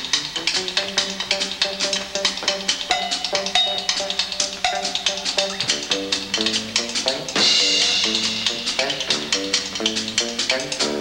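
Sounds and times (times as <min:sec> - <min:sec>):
plucked bass line: 0:00.0 - 0:11.0.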